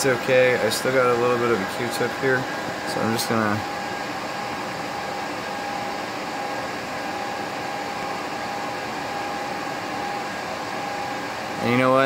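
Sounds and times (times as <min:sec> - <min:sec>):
fan hum: 0:00.0 - 0:12.0
thin steady whine: 0:00.0 - 0:12.0.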